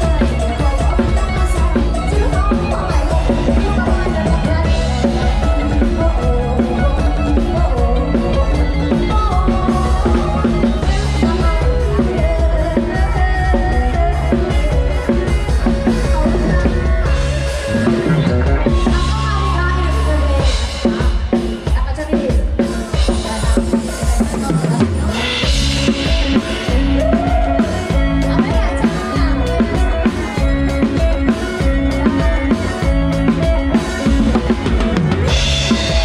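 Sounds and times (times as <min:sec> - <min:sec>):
heavy bass: 0:00.0 - 0:21.9, 0:22.9 - 0:36.0
driving drum kit: 0:00.0 - 0:36.0.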